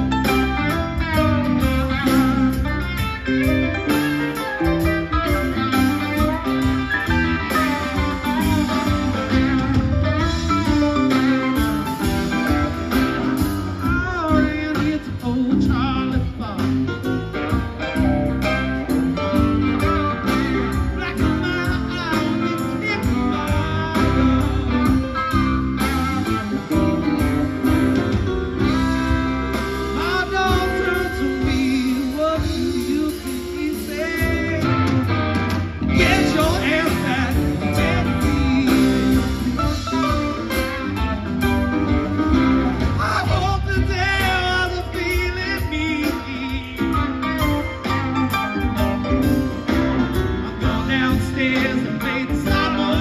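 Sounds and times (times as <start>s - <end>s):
lead guitar bending lines: 0.0s - 53.0s
rock band playing: 0.0s - 53.0s.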